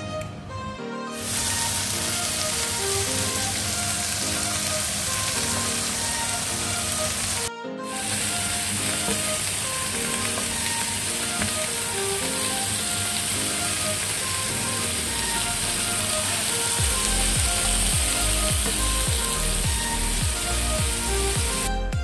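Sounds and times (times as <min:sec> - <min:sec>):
meat sizzling in hot oil: 0:01.2 - 0:21.7.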